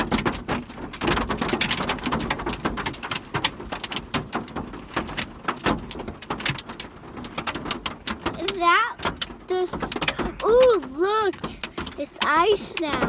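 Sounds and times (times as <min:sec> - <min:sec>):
hail pelting a car roof: 0:00.0 - 0:13.0.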